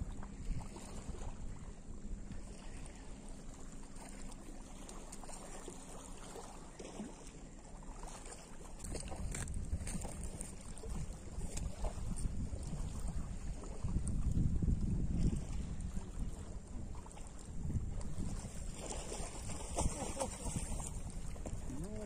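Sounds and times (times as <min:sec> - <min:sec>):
wind rumbling on microphone: 0:00.0 - 0:04.3, 0:08.2 - 0:22.0
small waves lapping on rocks: 0:02.3 - 0:14.4, 0:15.0 - 0:22.0.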